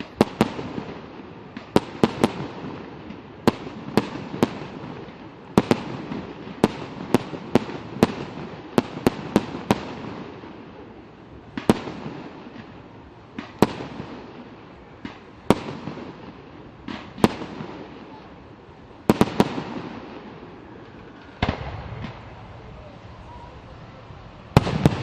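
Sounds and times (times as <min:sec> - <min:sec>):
fireworks bursting in sharp bangs: 0:00.0 - 0:25.0.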